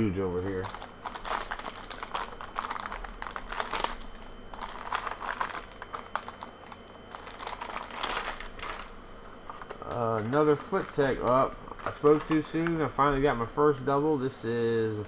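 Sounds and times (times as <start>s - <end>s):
foil wrapper crinkling: 0.2s - 14.0s.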